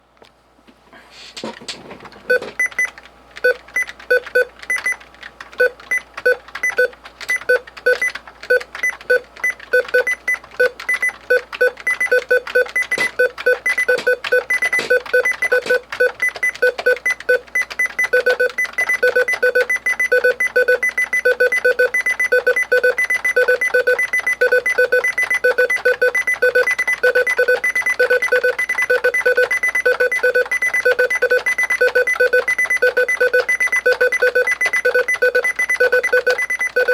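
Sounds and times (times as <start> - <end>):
short electronic keyboard beeps: 5.6 - 36.9.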